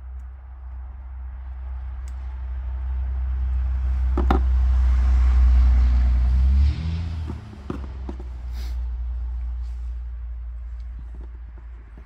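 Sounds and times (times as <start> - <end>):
vehicle rumbling past: 0.0 - 12.0.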